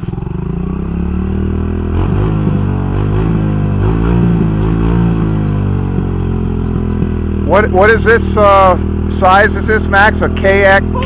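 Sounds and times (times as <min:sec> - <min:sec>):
engine revving: 0:00.0 - 0:11.0
motorcycle engine idling: 0:00.0 - 0:11.0.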